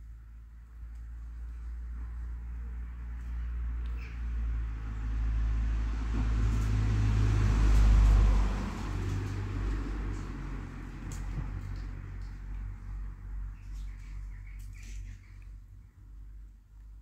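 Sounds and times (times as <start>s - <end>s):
passing vehicle rumble: 0.0s - 17.0s.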